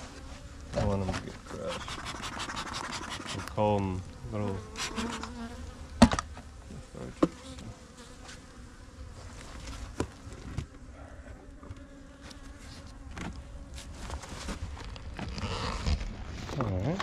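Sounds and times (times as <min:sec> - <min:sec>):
bees buzzing: 0:00.0 - 0:16.2.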